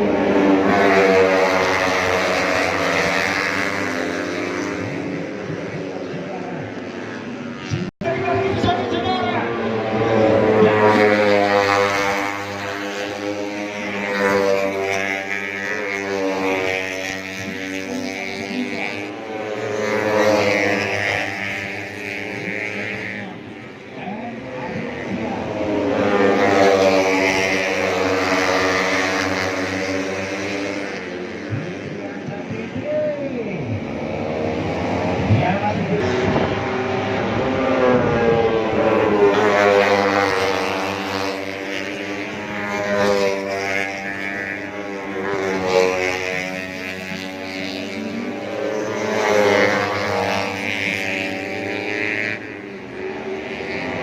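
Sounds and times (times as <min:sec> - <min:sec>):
racing motorcycles at high revs: 0:00.0 - 0:54.0.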